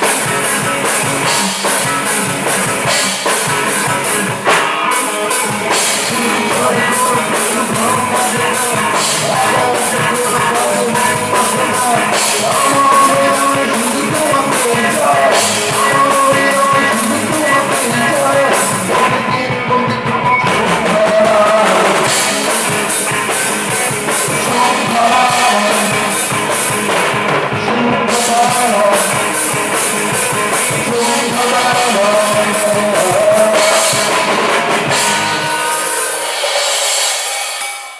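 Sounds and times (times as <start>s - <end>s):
drum kit cymbal beat: 0.0s - 19.6s, 20.2s - 37.9s
person singing: 0.0s - 36.5s
rock band playing live: 0.0s - 37.9s.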